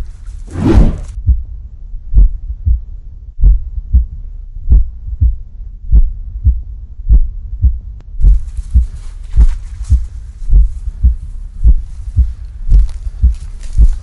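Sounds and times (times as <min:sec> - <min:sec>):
faint low hum: 0:00.0 - 0:14.0
heartbeat thumps: 0:00.6 - 0:14.0.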